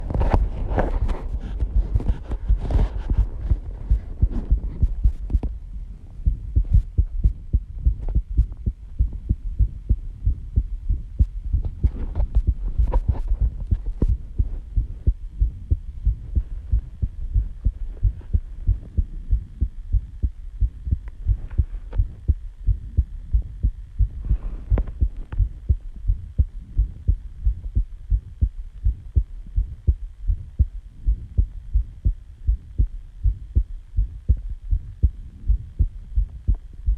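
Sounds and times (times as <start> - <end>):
heartbeat low thuds: 0.0 - 36.9.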